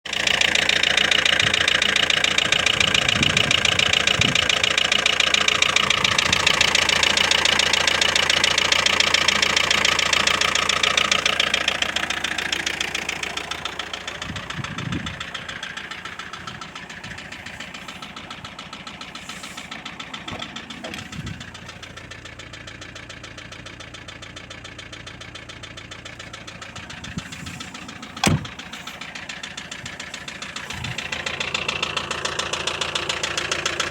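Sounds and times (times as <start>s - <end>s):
diesel engine knocking clatter: 0.0s - 33.9s.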